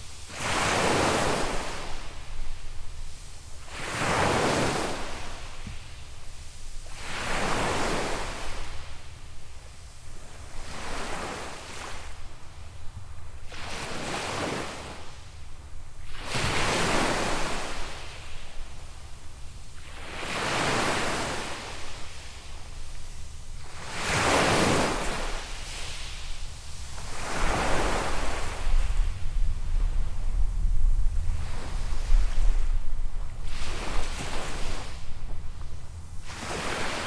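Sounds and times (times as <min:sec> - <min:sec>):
waves breaking on sandy beach: 0:00.0 - 0:37.0.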